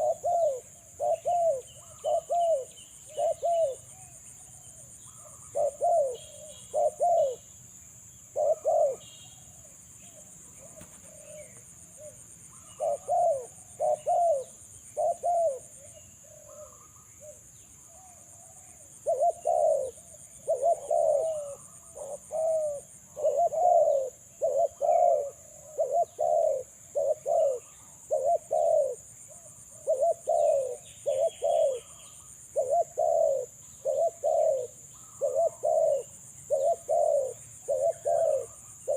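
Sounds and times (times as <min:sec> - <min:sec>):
doves cooing: 0:00.0 - 0:07.5, 0:08.3 - 0:38.9.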